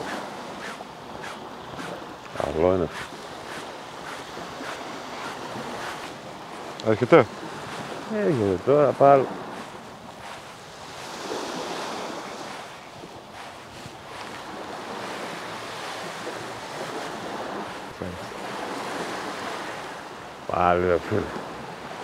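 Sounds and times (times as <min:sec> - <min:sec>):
waves washing onto beach: 0:00.0 - 0:22.0.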